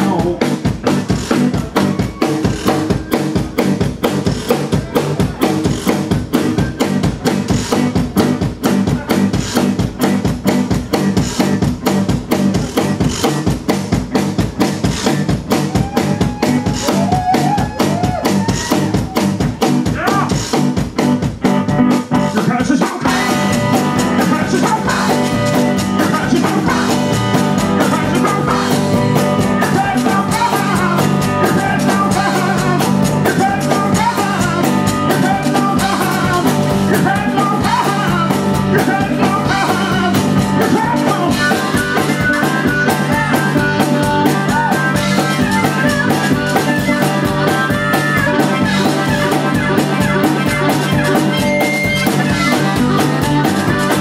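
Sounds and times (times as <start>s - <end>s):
fast drum beat: 0.0s - 54.0s
guitar: 0.0s - 54.0s.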